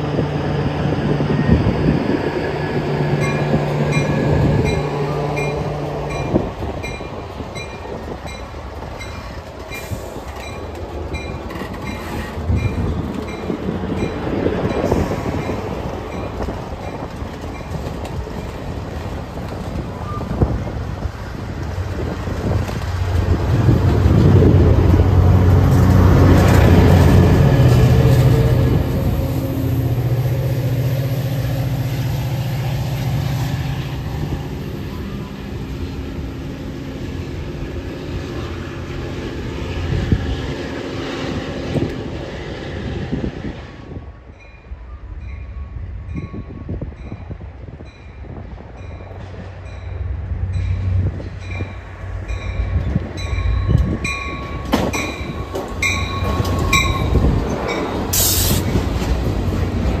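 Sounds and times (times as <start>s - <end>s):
train rolling through station: 0.0s - 60.0s.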